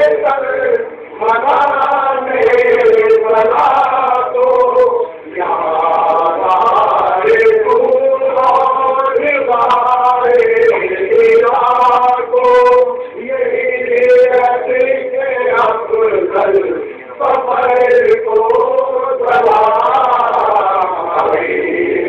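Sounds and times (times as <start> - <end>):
men singing a devotional chant: 0.0 - 22.0.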